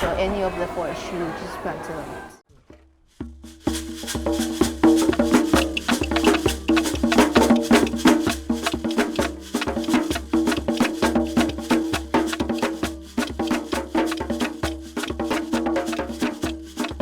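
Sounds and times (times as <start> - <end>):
rapid percussion strikes: 3.1 - 17.0.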